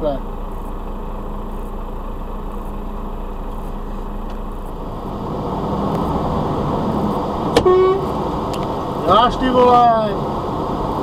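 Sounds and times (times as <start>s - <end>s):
truck engine drone from cab: 0.0s - 11.0s.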